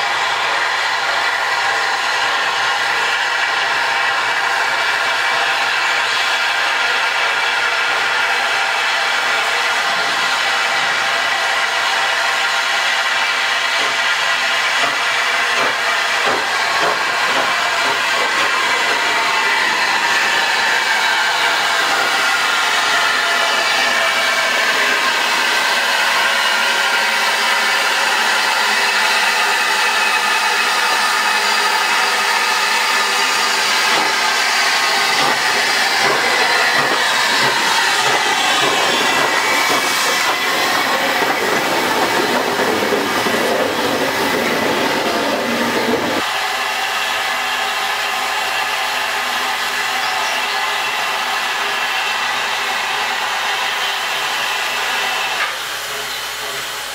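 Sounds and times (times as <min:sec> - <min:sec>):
steam locomotive hissing: 0:00.0 - 0:56.9.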